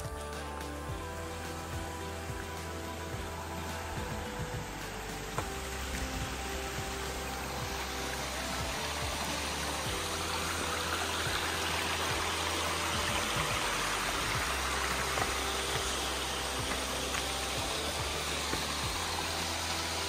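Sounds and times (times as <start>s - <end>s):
creek cascading over rocks: 0.0s - 20.0s.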